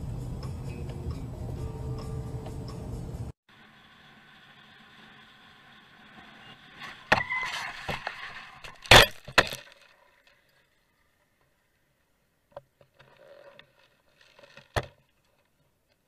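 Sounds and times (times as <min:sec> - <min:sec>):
faint road noise: 0:00.0 - 0:16.0.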